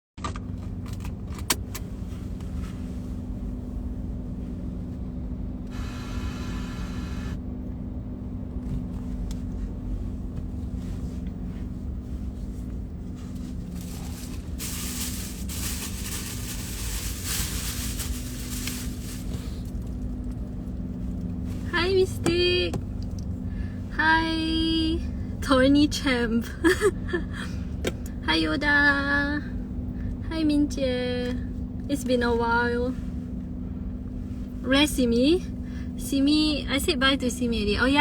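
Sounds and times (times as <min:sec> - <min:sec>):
car running hum inside cabin: 0:00.2 - 0:38.0.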